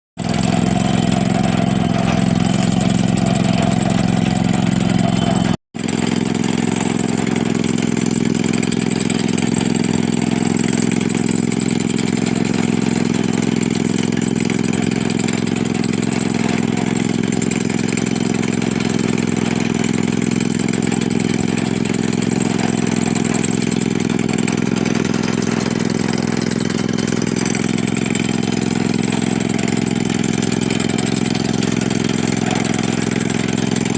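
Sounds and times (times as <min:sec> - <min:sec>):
engine idling: 0:00.2 - 0:33.9.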